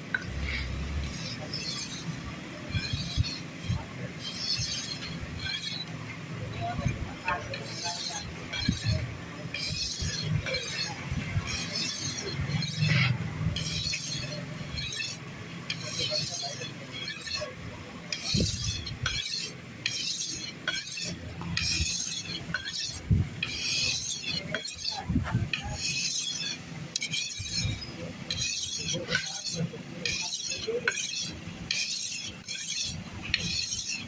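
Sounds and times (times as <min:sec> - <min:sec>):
knife being sharpened: 0:00.2 - 0:05.9, 0:06.6 - 0:34.0.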